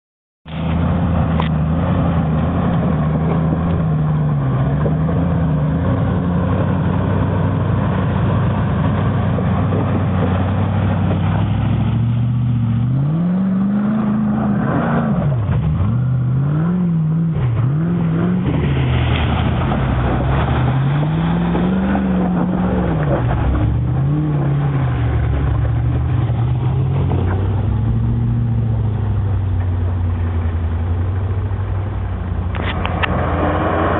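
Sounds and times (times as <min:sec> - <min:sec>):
car engine revving: 0:00.5 - 0:33.9.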